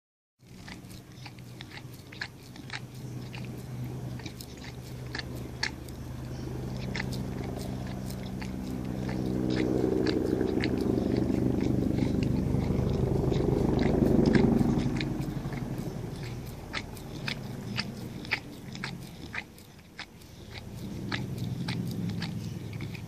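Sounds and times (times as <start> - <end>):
dog licking and crunching ice: 0.4 - 23.0
low hum: 0.4 - 23.0.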